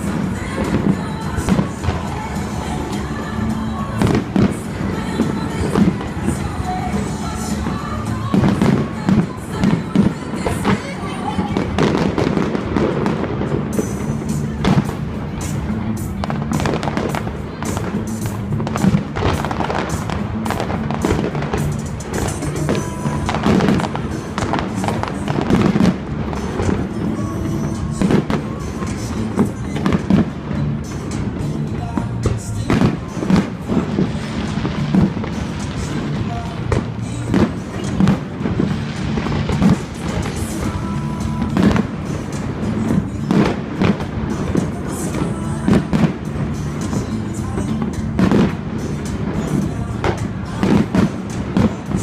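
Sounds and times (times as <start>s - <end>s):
fireworks bangs and crackles: 0.0s - 52.0s
music playing: 0.0s - 52.0s.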